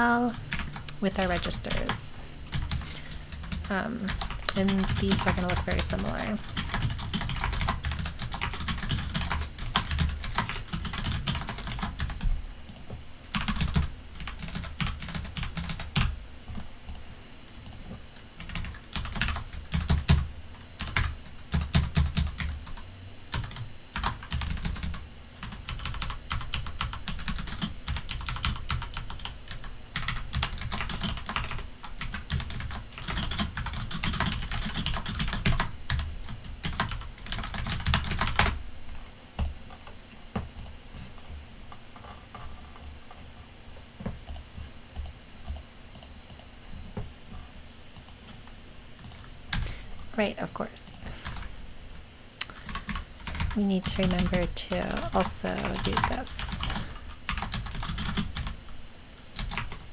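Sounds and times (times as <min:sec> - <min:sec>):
computer keyboard typing: 0:00.0 - 0:17.0, 0:17.6 - 0:38.6, 0:39.4 - 0:41.2, 0:42.0 - 0:43.3, 0:44.0 - 0:46.5, 0:48.0 - 0:48.4, 0:49.0 - 0:49.7, 0:50.9 - 0:51.5, 0:52.4 - 0:58.6, 0:59.4 - 0:59.9.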